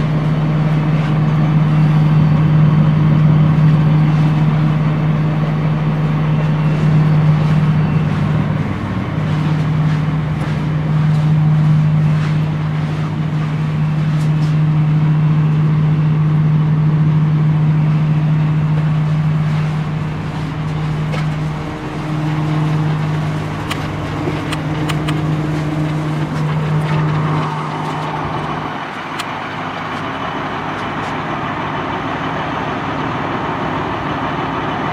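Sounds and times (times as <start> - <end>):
bus engine humming: 0.0 - 34.9.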